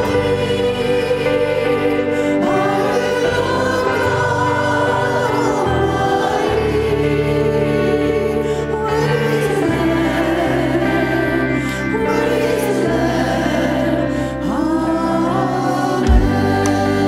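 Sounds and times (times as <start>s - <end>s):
women singing in harmony: 0.0s - 17.0s.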